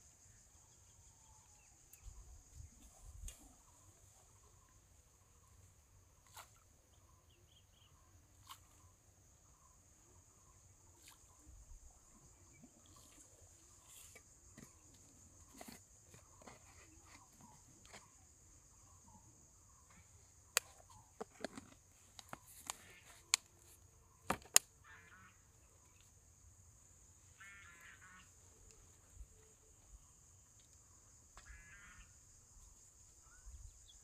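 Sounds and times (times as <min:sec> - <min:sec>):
faint insect drone: 0:00.0 - 0:34.0.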